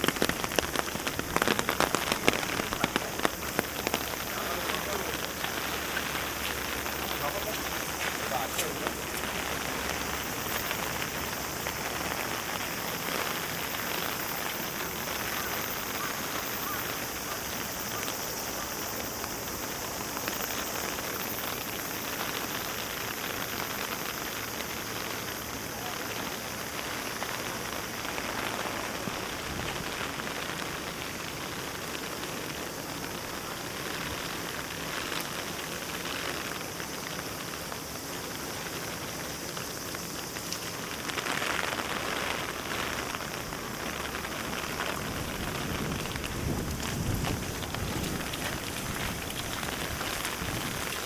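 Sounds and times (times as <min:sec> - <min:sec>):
heavy rain hissing: 0:00.0 - 0:51.0
raindrop ticks: 0:00.0 - 0:51.0.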